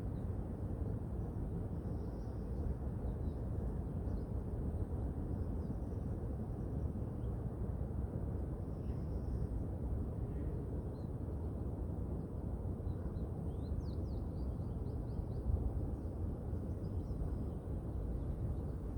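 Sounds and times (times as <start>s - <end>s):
wind: 0.0s - 18.9s.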